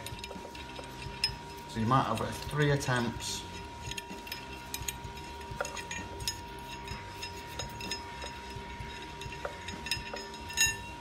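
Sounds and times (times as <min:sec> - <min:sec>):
metallic clinks and taps: 0:00.0 - 0:11.0.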